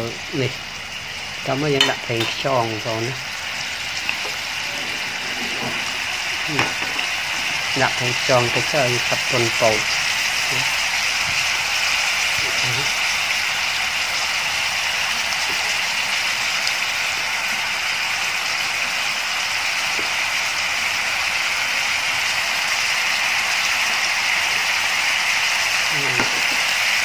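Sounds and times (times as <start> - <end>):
meat sizzling in a frying pan: 0.0 - 27.0.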